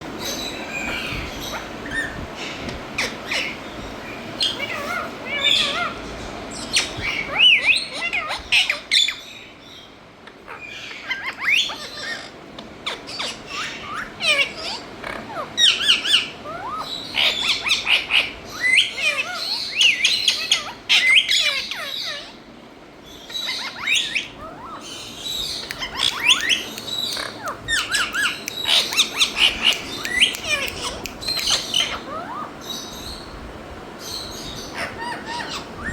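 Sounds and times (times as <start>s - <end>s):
parakeet chirping and squawking: 0.1s - 22.4s, 23.0s - 33.4s, 34.0s - 35.9s.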